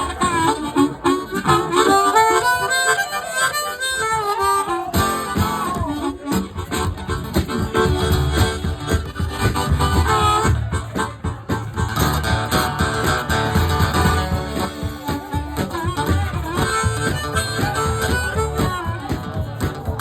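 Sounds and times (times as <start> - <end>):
harmonica playing: 0.0 - 20.0
strummed guitar: 0.0 - 20.0.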